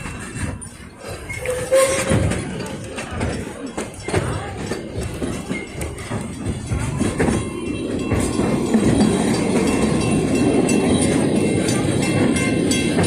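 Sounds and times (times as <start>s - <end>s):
steam train rumbling: 0.0s - 13.0s.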